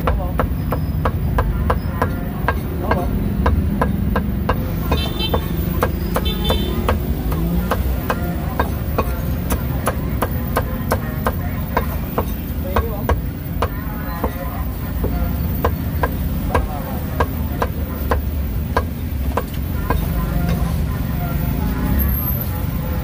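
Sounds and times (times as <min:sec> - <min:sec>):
cleaver chopping on wooden block: 0:00.0 - 0:14.4, 0:15.0 - 0:20.1.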